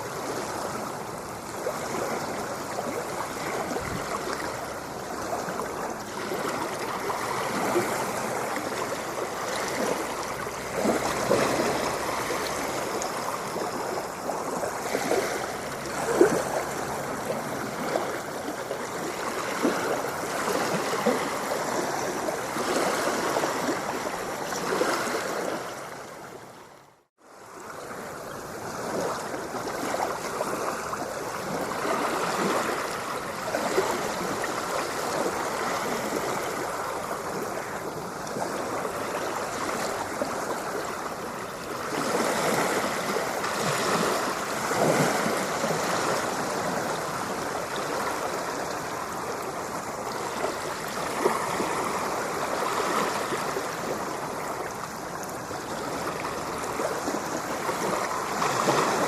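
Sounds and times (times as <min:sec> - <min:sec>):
water splashing and gurgling: 0:00.0 - 0:59.0.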